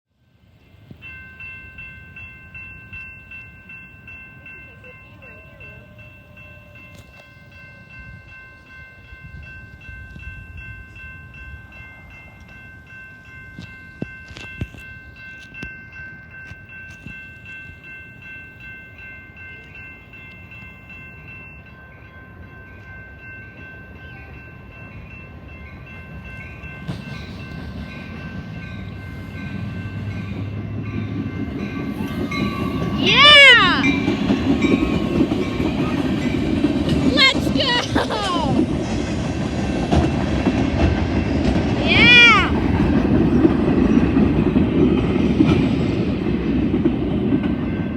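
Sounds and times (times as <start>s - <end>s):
freight train rumble: 0.4s - 47.9s.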